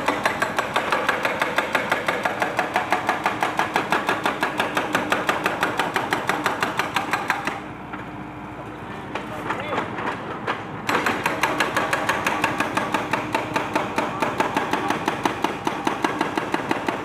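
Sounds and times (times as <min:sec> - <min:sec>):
hydraulic breaker hammering masonry: 0:00.0 - 0:08.1, 0:09.0 - 0:17.0.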